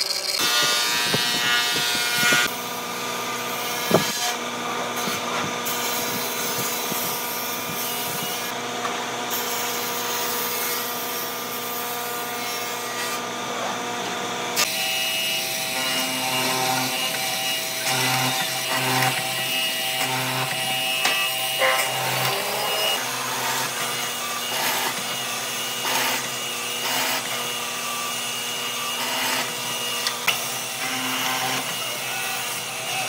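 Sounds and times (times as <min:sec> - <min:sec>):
workshop machinery hum: 0:00.0 - 0:33.0.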